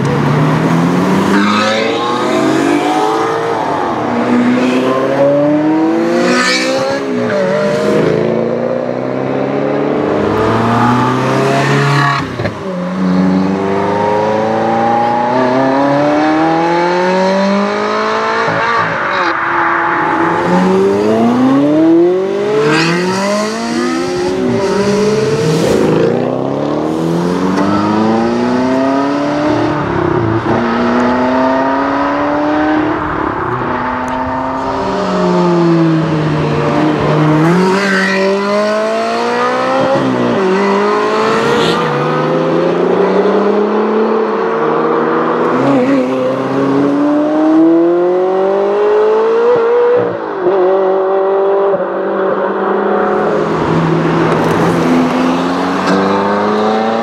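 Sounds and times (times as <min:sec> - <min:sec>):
sports car engines accelerating: 0:00.0 - 0:57.0.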